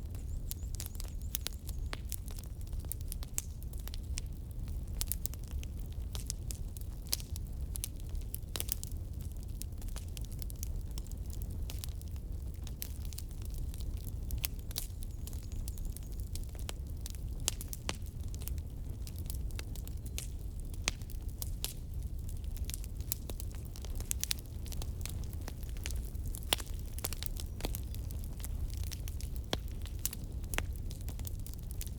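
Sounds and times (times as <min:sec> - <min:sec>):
firewood crackling and popping: 0:00.0 - 0:31.9.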